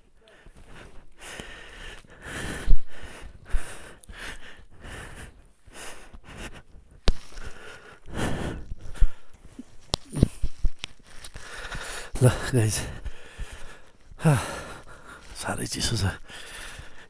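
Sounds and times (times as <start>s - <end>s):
person breathing hard and sniffing: 0.2s - 17.0s.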